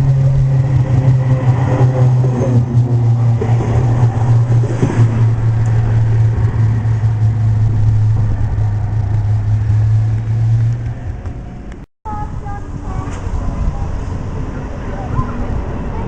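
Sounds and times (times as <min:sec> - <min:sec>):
tram rolling with low hum: 0:00.0 - 0:16.0.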